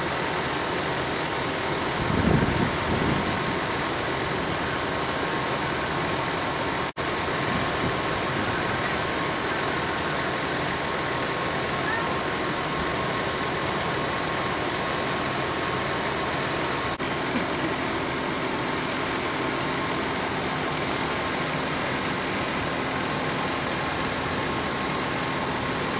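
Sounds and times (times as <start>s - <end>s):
diesel engines rumbling: 0.0s - 25.9s.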